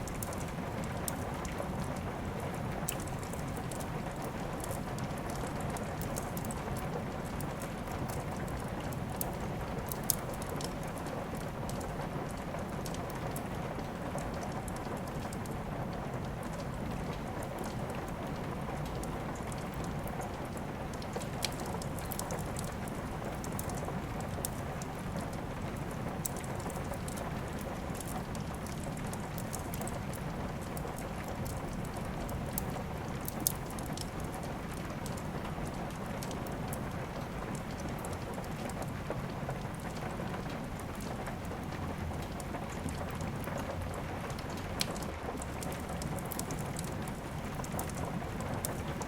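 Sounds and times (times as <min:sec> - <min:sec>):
crackling wood fire: 0:00.0 - 0:49.0
steady rain: 0:00.0 - 0:49.0.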